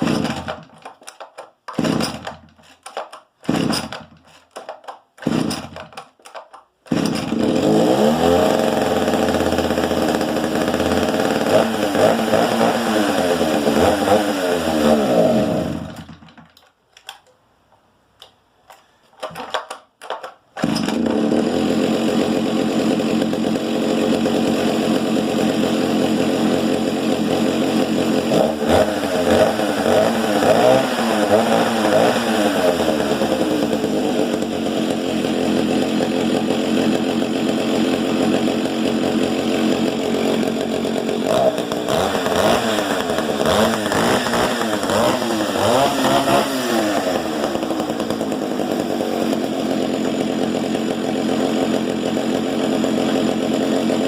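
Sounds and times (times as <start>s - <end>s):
chainsaw engine running: 0.0s - 16.6s, 19.2s - 54.0s.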